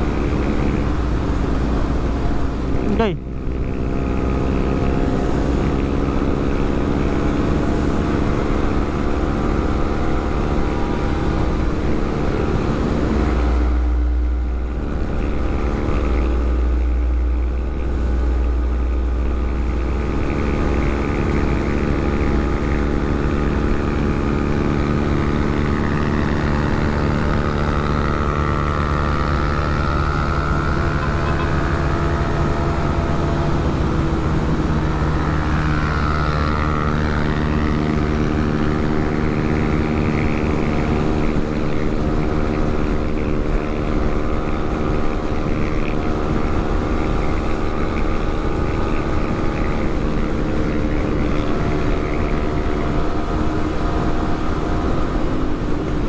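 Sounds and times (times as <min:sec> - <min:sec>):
motorcycle engine cruising: 0:00.0 - 0:56.0
wind rumbling on microphone: 0:00.0 - 0:56.0.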